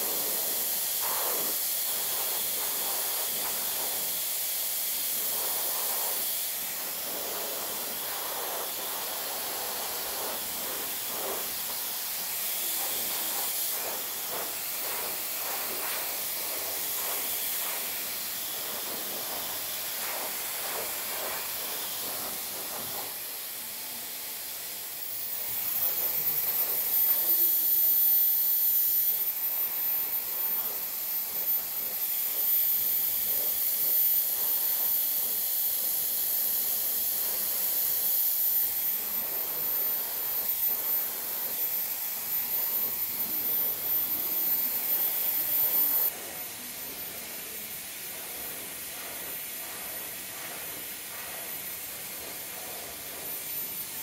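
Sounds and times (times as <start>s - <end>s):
hair dryer blowing air: 0.0s - 54.0s.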